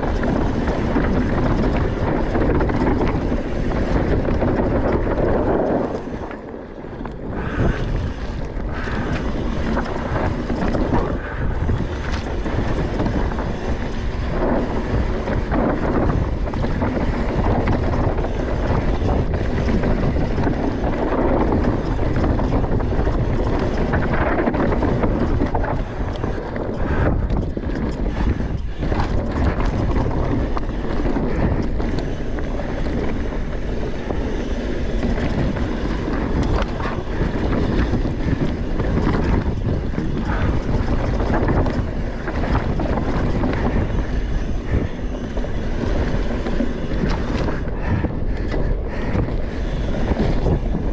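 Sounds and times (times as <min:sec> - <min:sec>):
bike rattling: 0:00.0 - 0:50.9
tyres rumbling over dirt: 0:00.0 - 0:50.9
wind rushing over microphone: 0:00.0 - 0:50.9.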